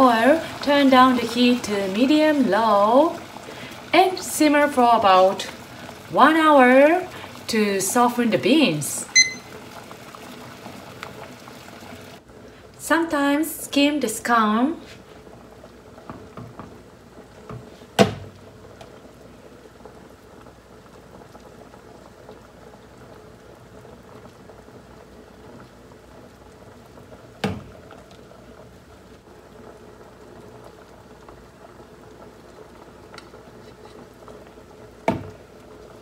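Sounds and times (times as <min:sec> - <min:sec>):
pot of beans bubbling: 0:00.0 - 0:36.0.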